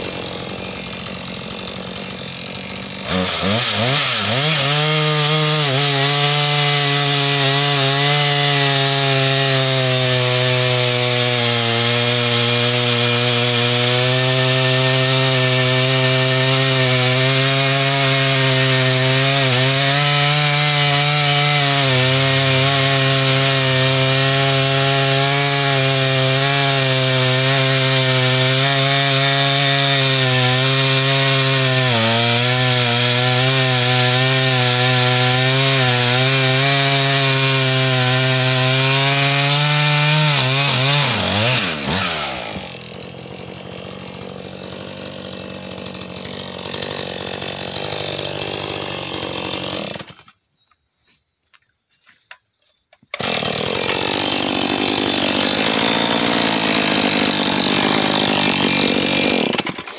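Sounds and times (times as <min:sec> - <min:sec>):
chainsaw cutting a log: 0:00.0 - 0:50.4, 0:53.1 - 0:59.9.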